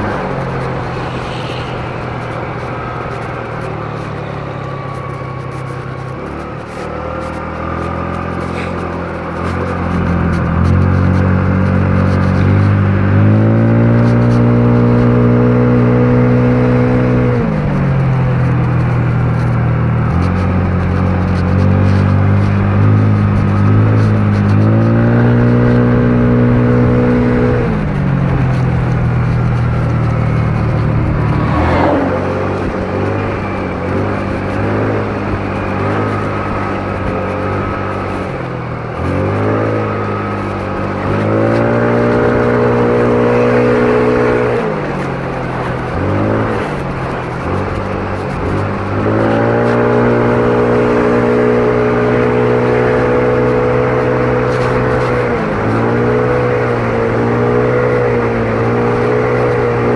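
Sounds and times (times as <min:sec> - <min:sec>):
scooter engine revving: 0:00.0 - 0:59.9.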